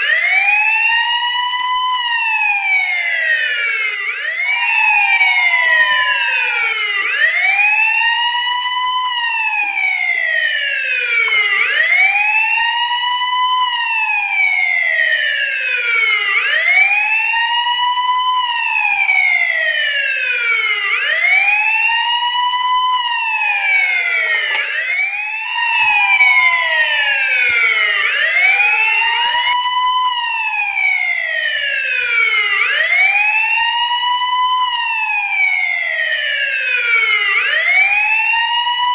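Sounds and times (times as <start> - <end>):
other siren sweeps overlapping: 0.0 - 38.9
police siren wailing: 0.0 - 38.9.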